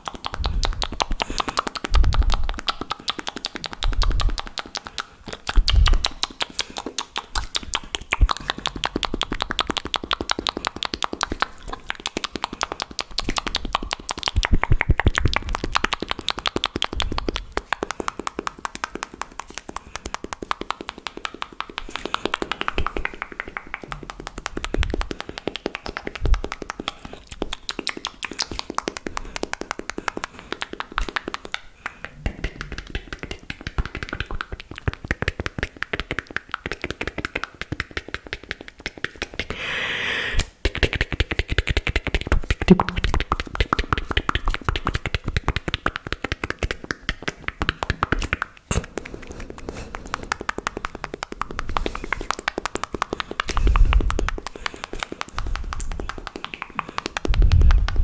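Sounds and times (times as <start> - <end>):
wet mouth clicks and pops: 0.0 - 39.6, 40.3 - 58.0.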